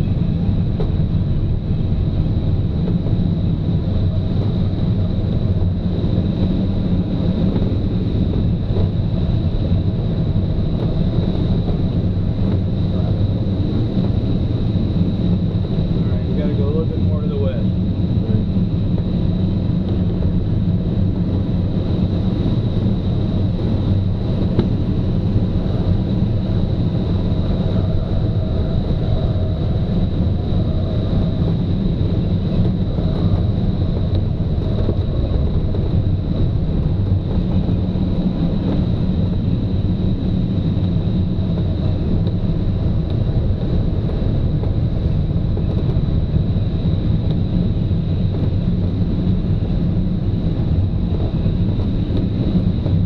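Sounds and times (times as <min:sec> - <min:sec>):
wind and airflow noise: 0:00.0 - 0:53.0.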